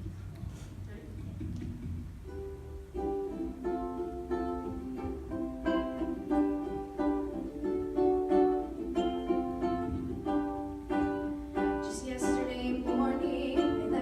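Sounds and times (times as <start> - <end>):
ukulele strumming chords: 1.0 - 14.0.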